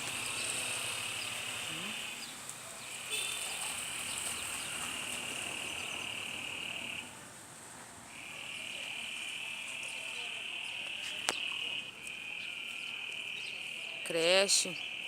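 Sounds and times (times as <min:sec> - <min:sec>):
frogs calling: 0:00.0 - 0:07.1, 0:08.1 - 0:15.0.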